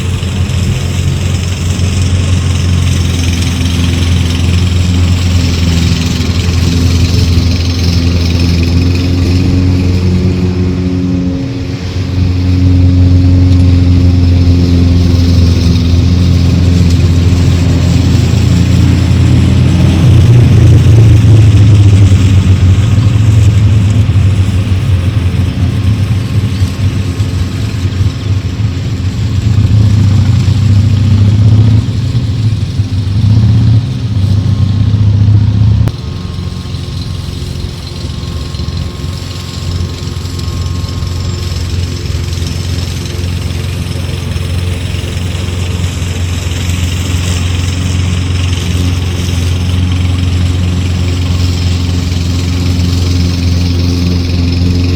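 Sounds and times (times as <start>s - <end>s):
lawnmower engine running: 0.0s - 54.9s.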